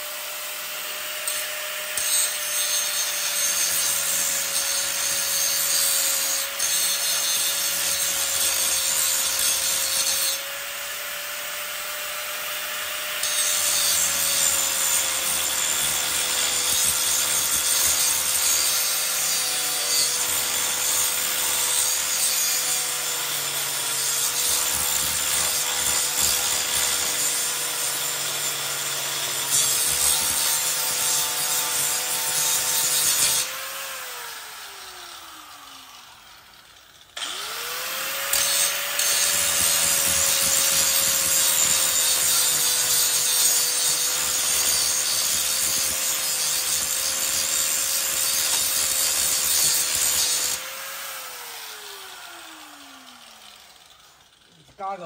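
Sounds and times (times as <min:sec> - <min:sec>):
grinder grinding metal: 0:00.0 - 0:55.0.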